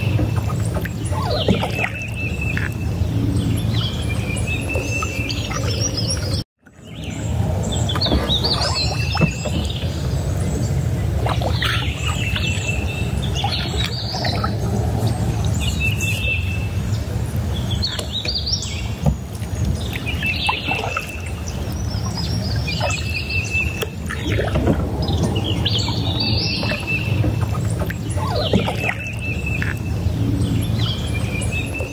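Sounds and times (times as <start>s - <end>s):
birds calling and singing: 0.0s - 31.9s
low steady rumble: 0.0s - 31.9s.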